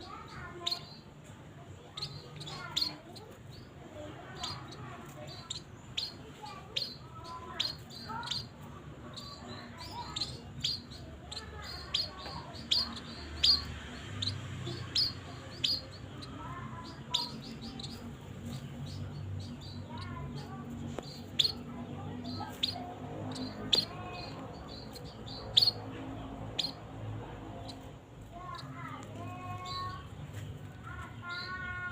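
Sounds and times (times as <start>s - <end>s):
small birds chirping: 0.0s - 31.9s.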